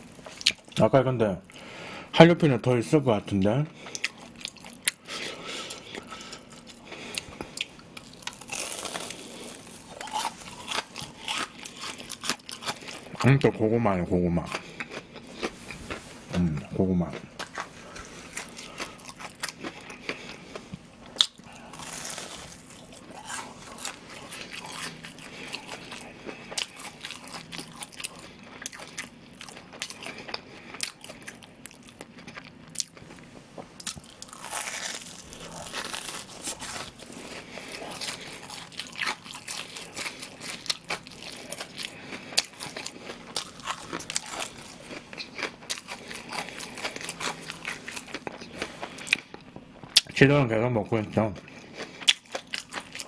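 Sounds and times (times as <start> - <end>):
crunching fried food: 3.8 - 50.2, 51.2 - 53.0.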